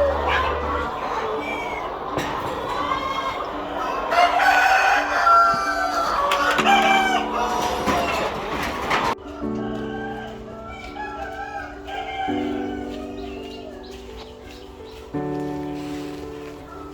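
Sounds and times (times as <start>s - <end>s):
roosters crowing: 0.0s - 15.0s, 15.8s - 16.9s
background music: 0.0s - 16.9s.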